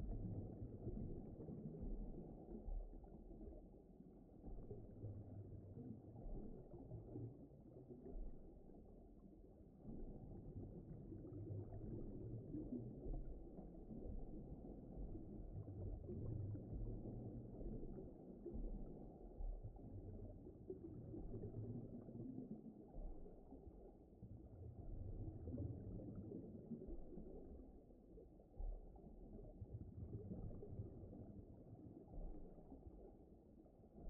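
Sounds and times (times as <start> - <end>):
muffled underwater rumble: 0.0 - 34.0.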